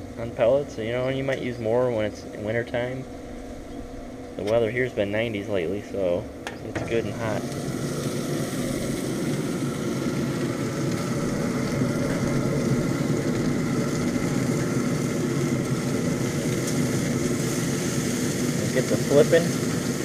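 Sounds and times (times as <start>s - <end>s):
fan humming with faint whine: 0.0s - 20.0s.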